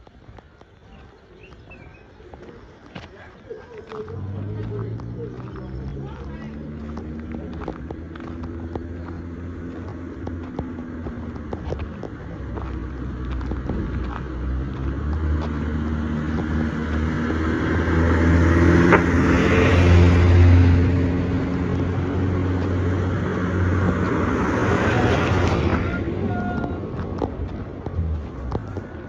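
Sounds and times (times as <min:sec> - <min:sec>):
vehicle engine running: 0:02.9 - 0:29.0.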